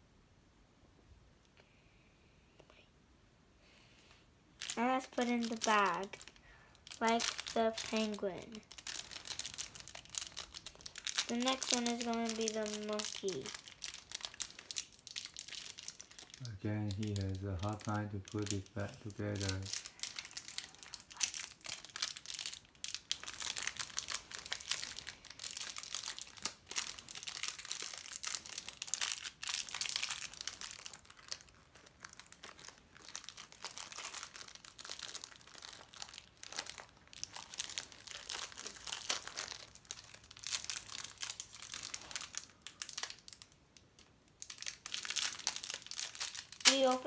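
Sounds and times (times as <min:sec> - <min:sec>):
plastic bag crinkling: 0:04.6 - 0:47.0.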